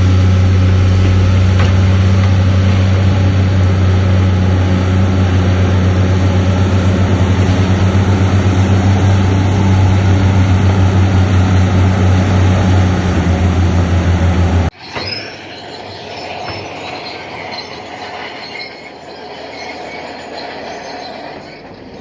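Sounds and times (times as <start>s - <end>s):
heavy diesel engine running: 0.0s - 22.0s
metallic squealing of tracks: 0.0s - 22.0s.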